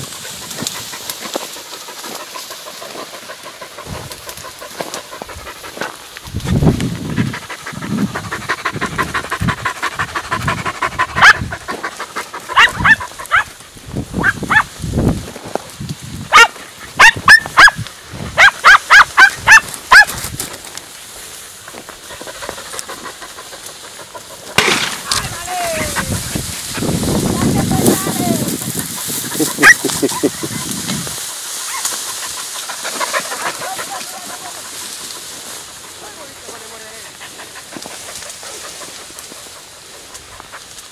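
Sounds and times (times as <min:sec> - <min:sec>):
hounds yelping: 0:00.0 - 0:06.2, 0:07.1 - 0:13.6, 0:14.2 - 0:14.7, 0:16.3 - 0:20.2, 0:21.7 - 0:40.9.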